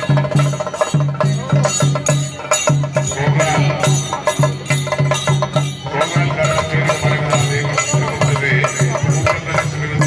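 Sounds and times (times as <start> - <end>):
drummers beating drums: 0.0 - 10.0.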